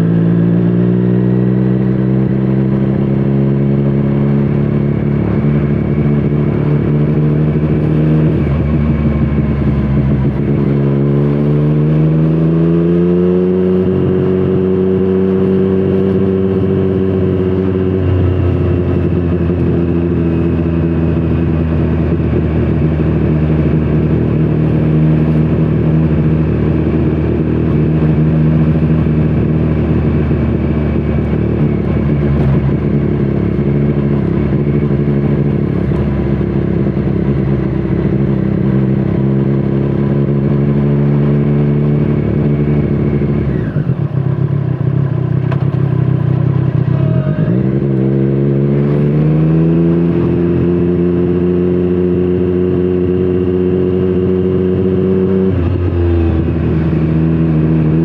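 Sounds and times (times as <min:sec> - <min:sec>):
motorcycle engine riding along: 0:00.0 - 0:58.0.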